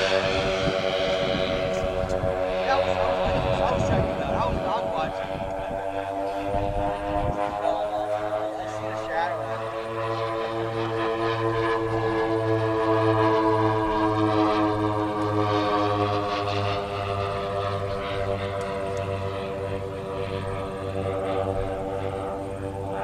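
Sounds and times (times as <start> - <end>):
model plane engines throbbing: 0.0 - 23.0.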